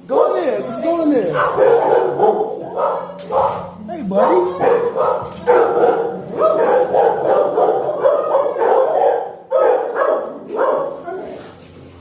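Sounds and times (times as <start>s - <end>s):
dogs barking: 0.0s - 11.6s.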